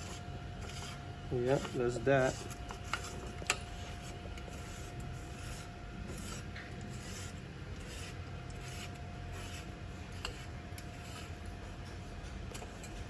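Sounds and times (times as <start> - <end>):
parts rubbing and scraping: 0.0 - 13.0.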